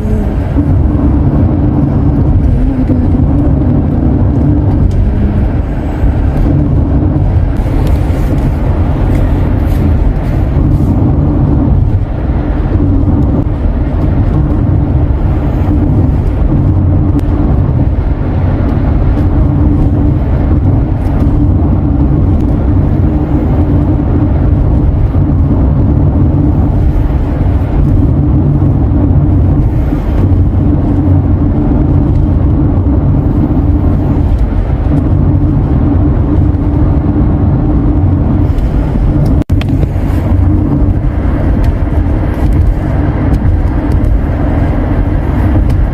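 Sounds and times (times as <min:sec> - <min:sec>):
car engine and road rumble: 0:00.0 - 0:45.9.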